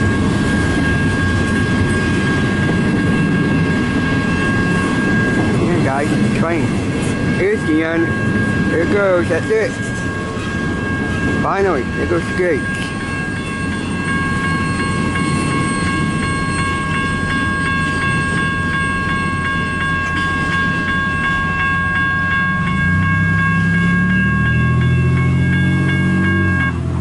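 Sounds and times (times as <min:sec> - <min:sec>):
crossing warning bell ringing: 0:00.0 - 0:27.0.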